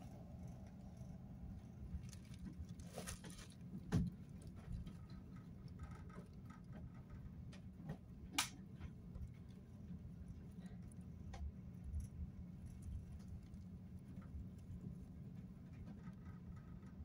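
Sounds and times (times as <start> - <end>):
light clicks and rattles: 0.0 - 17.0.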